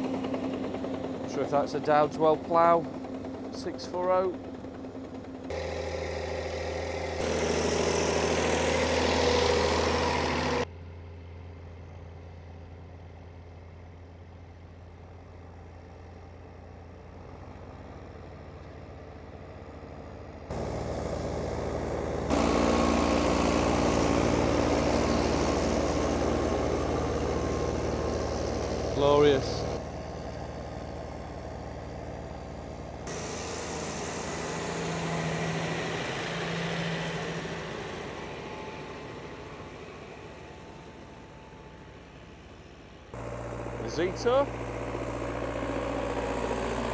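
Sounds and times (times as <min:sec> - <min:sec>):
diesel tractor engine running: 0:00.0 - 0:46.9.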